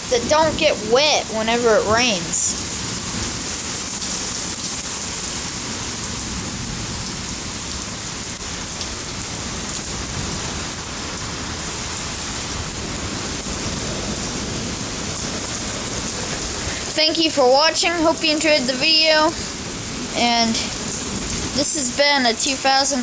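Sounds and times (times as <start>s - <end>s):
heavy rain on concrete: 0.0s - 23.0s.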